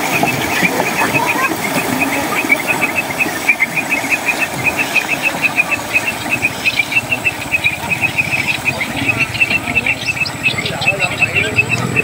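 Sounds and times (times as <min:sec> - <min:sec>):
small engine knocking: 0:00.0 - 0:12.0.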